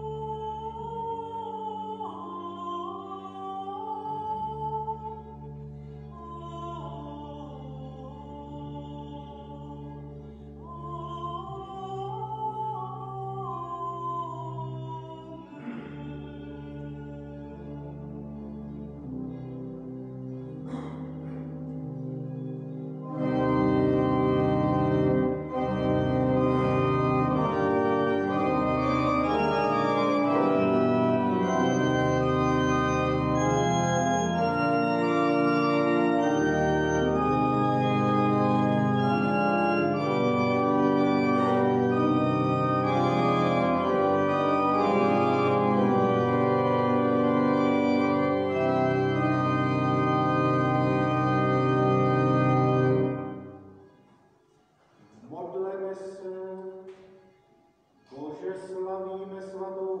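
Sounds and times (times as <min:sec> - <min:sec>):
church organ playing chords: 0:00.0 - 0:53.8.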